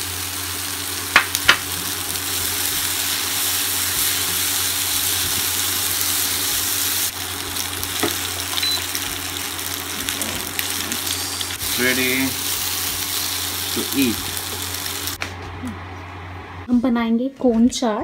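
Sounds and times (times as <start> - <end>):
food sizzling in frying pan: 0.0 - 15.2.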